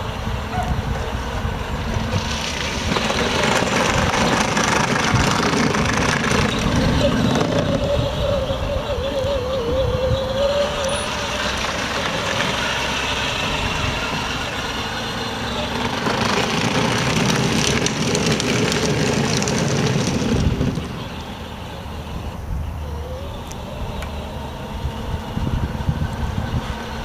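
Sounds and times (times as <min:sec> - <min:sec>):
electric motor whining: 0:00.0 - 0:27.0
plastic wheels rolling: 0:00.0 - 0:27.0.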